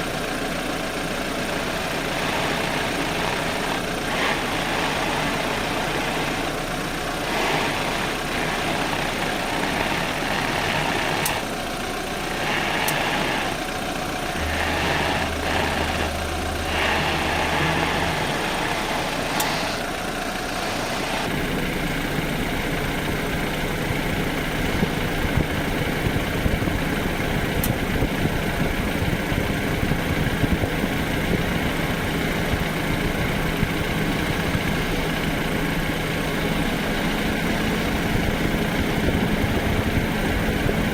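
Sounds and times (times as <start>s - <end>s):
car engine running: 0.0s - 40.9s
ticking from front wheel: 1.3s - 40.9s.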